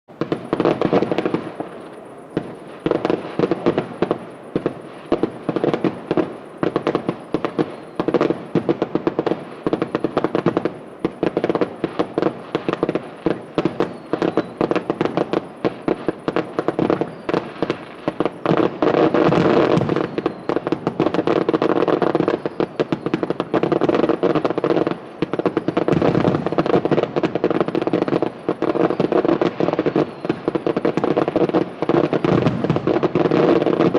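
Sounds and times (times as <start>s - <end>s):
fireworks bursts and bangs: 0.1s - 33.9s.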